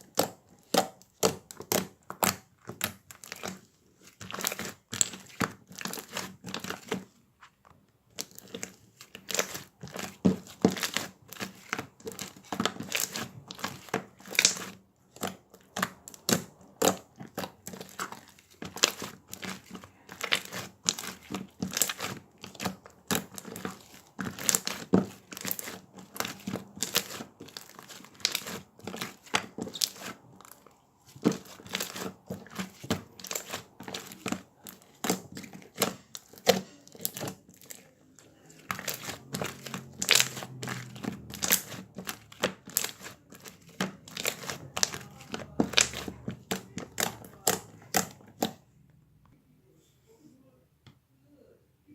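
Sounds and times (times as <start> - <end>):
slime squished by hand: 0.0 - 7.2, 8.1 - 48.7.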